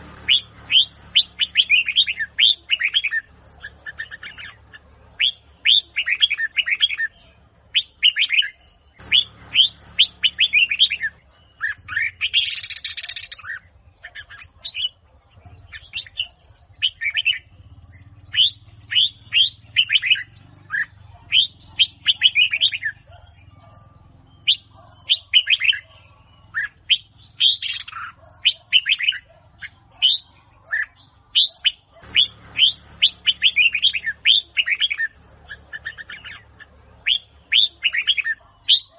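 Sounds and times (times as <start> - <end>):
bird singing bright chirps: 0.0 - 38.9.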